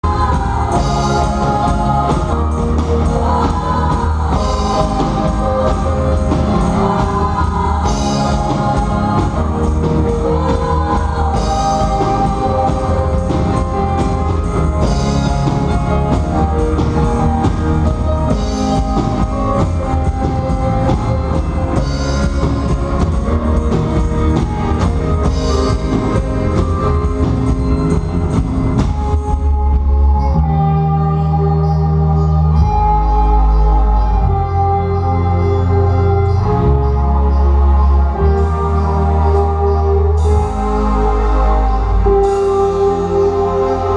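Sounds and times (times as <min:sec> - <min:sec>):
song with bass and drums: 0:00.0 - 0:43.9.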